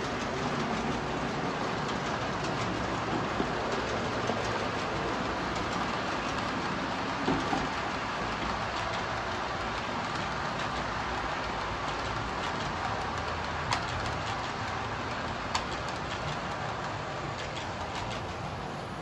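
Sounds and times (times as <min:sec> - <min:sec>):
model train wheels rumbling on rails: 0:00.0 - 0:19.0.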